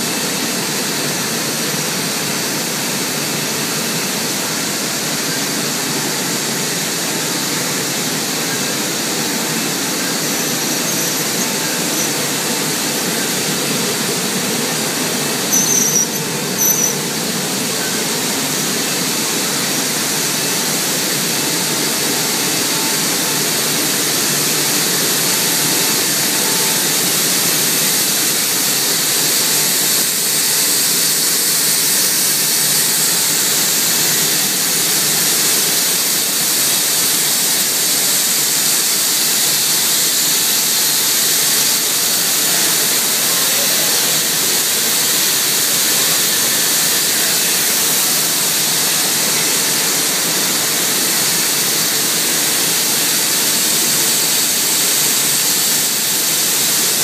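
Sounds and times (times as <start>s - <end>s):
production line hissing rush: 0.0s - 57.0s.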